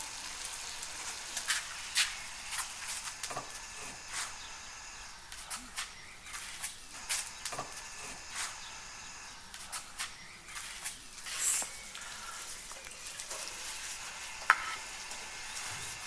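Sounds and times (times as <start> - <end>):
faint outdoor background: 0.0 - 16.0
thin steady high tones: 0.0 - 16.0.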